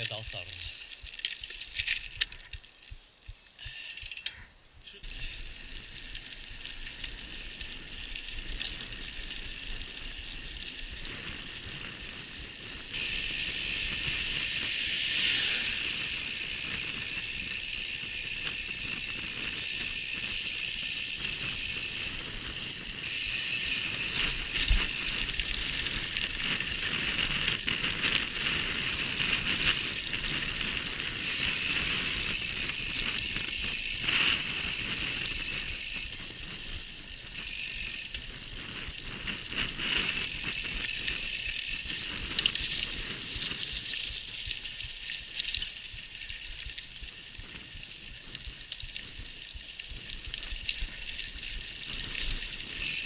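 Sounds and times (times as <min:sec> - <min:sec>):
bicycle drivetrain clicking: 0:00.0 - 0:53.0
bike tyres rolling hiss: 0:00.0 - 0:53.0.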